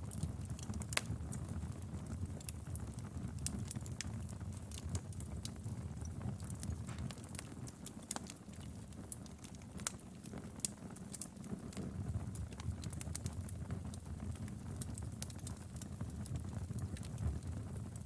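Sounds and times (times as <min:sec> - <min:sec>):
low rumble of burning: 0:00.0 - 0:18.0
wood fire crackling: 0:00.0 - 0:18.0.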